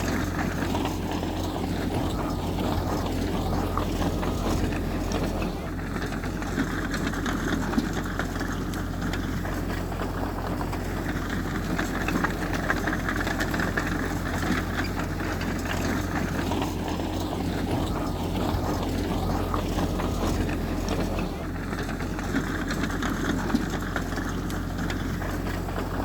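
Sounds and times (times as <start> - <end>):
heavy diesel engine droning: 0.0 - 26.0.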